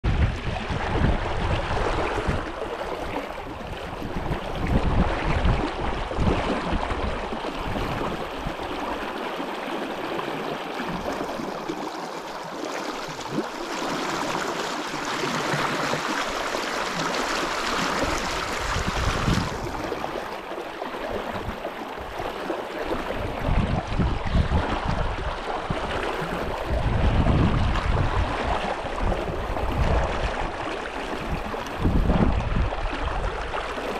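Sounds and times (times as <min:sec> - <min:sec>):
brook water flowing: 0:00.0 - 0:33.9.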